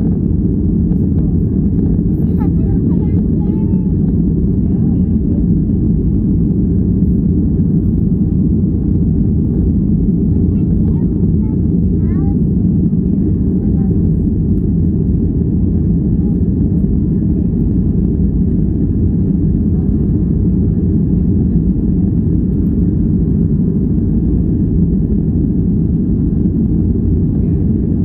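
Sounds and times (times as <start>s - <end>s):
jet airliner cabin roar: 0.0s - 28.0s.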